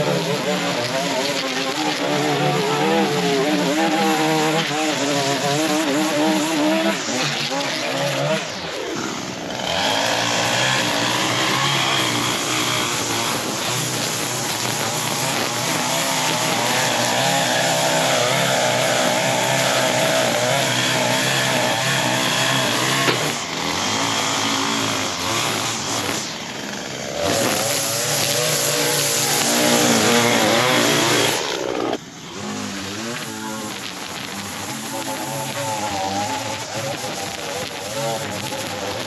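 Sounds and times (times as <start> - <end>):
string trimmer cutting grass: 0.0 - 39.0.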